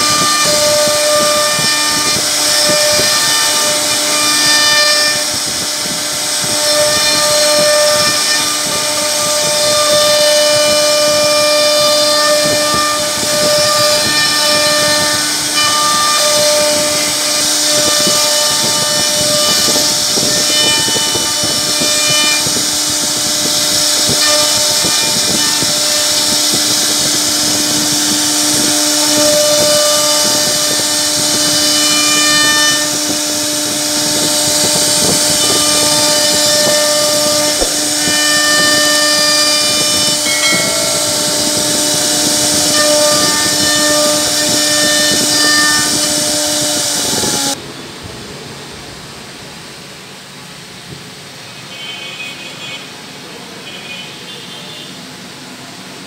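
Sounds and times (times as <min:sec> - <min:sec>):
router spindle whining: 0:00.0 - 0:47.7.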